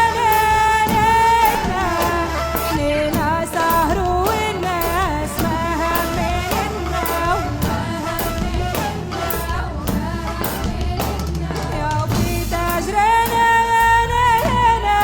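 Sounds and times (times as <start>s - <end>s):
drums steady beat: 0.0s - 15.0s.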